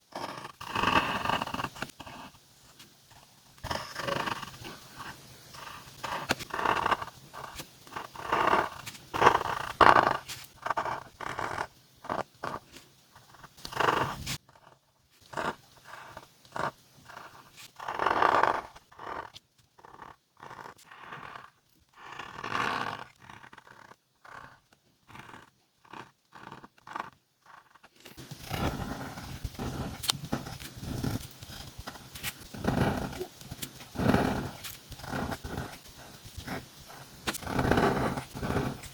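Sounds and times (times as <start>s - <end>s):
pen nib scratching paper: 0.1s - 38.9s.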